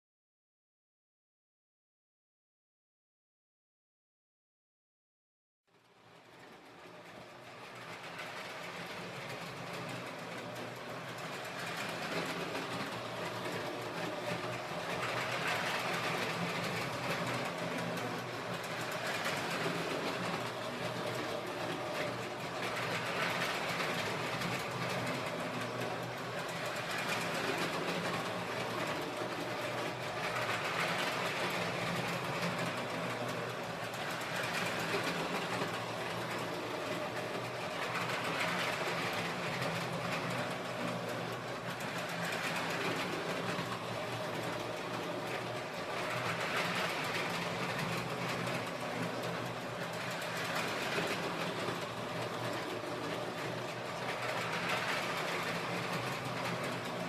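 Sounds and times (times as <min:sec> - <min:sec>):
train wheel clatter: 0:06.0 - 0:57.0
model train motor whirring: 0:07.0 - 0:57.0.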